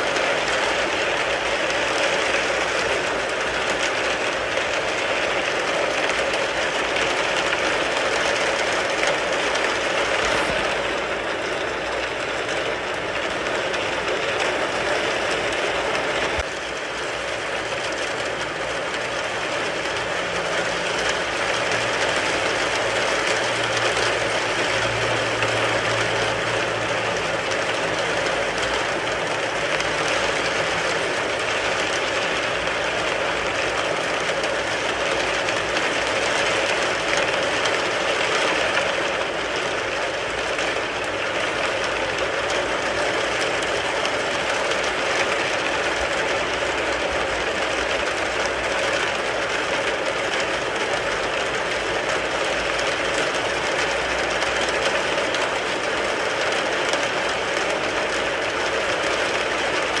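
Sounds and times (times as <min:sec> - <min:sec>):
rain falling on a car: 0:00.0 - 1:00.0.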